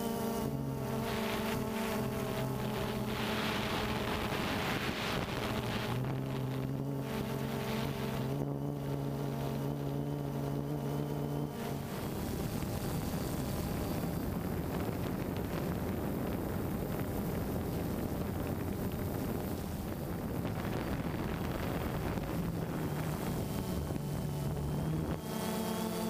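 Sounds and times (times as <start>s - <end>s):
drone propellers humming: 0.0s - 26.0s
wind on microphone: 0.3s - 26.0s.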